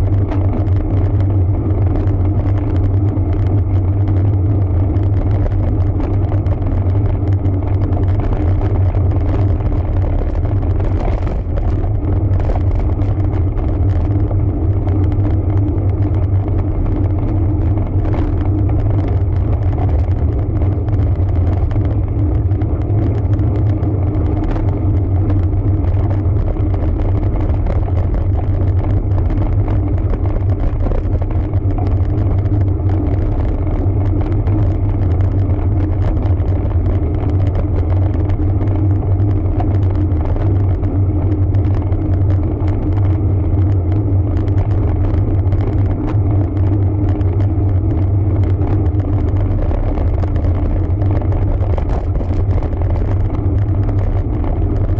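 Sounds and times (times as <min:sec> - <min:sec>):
bike tyre noise: 0:00.0 - 0:54.9
wind rumble on microphone: 0:00.0 - 0:54.9.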